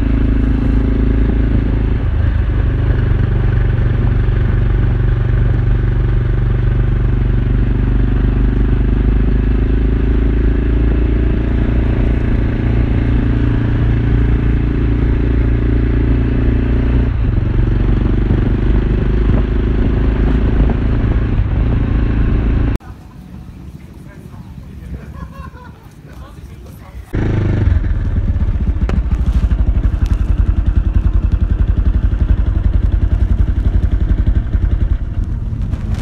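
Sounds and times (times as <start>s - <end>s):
motorcycle engine running: 0.0s - 22.8s, 27.1s - 36.0s.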